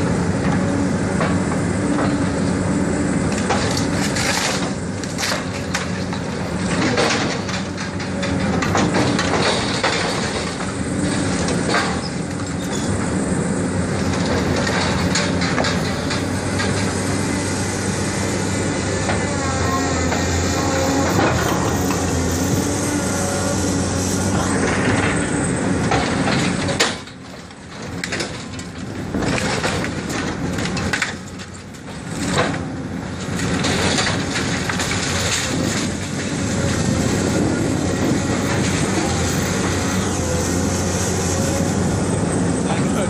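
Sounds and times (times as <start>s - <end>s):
excavator diesel engine running: 0.0s - 43.0s
wood and debris crunching: 3.3s - 13.1s, 14.0s - 43.0s.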